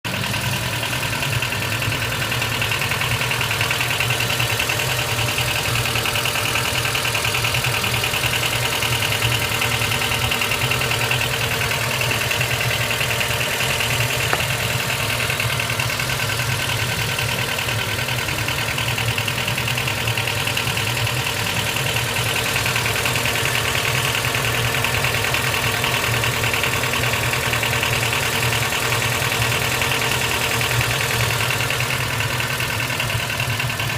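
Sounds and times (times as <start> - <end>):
car engine idling: 0.0 - 33.9
abnormal engine noise: 0.1 - 33.9.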